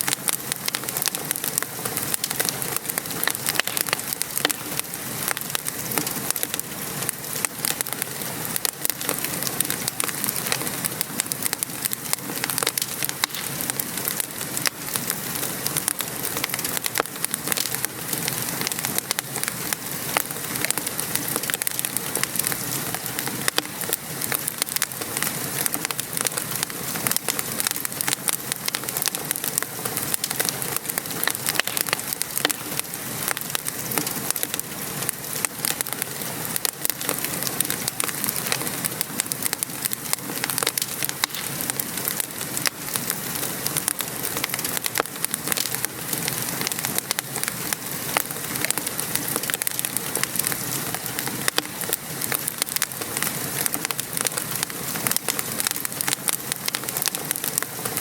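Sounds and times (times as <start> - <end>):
rain pattering: 0.0 - 58.0
wood fire crackling: 0.0 - 58.0.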